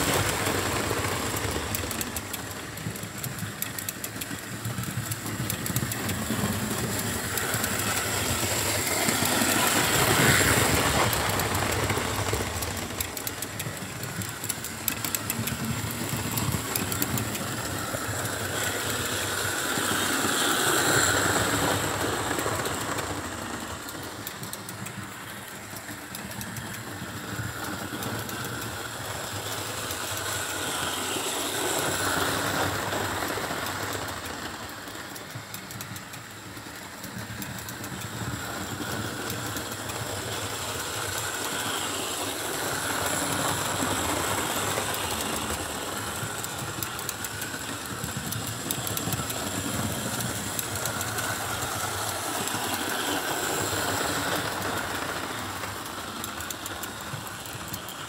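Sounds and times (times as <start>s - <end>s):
model train motor whining: 0.0s - 58.0s
train wheels clicking over rails: 0.0s - 58.0s.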